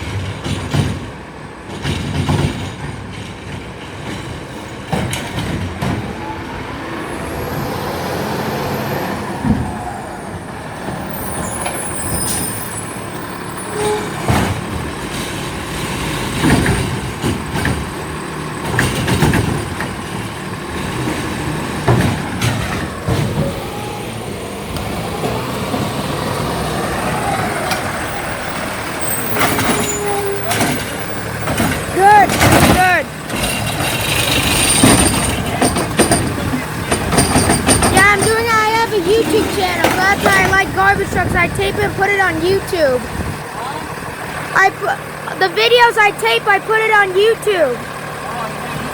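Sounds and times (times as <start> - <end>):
knocks and clanks: 0.0 - 6.2, 9.3 - 23.7, 24.6 - 43.5
garbage truck running: 0.0 - 48.9.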